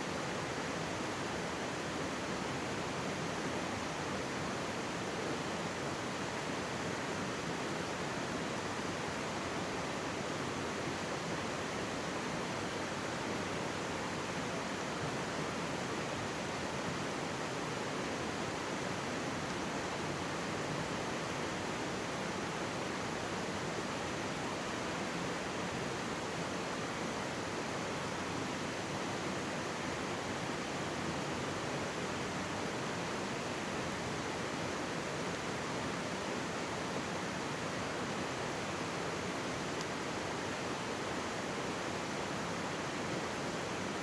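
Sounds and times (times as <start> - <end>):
stream rushing: 0.0 - 44.0.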